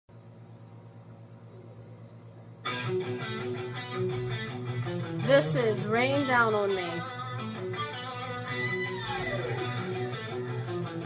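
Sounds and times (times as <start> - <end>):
low electrical hum: 0.1 - 11.0.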